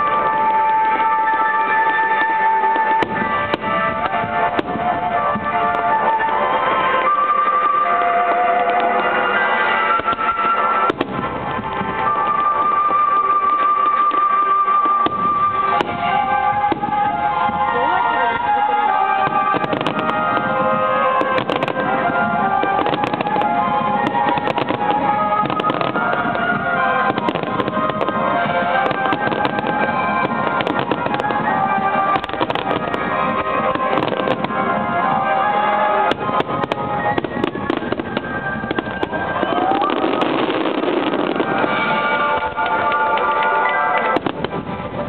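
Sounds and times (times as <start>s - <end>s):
fireworks bursting: 0.0s - 45.0s
music playing: 0.0s - 45.0s.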